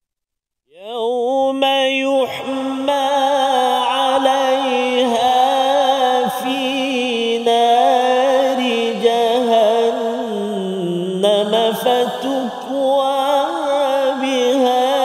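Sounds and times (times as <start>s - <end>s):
person reciting melodically: 0.7s - 15.0s.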